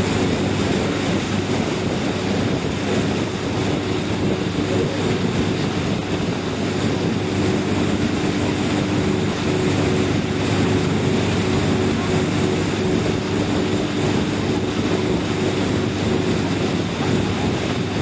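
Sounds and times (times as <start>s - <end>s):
boat engine running: 0.0s - 18.0s
water rushing along hull: 0.0s - 18.0s.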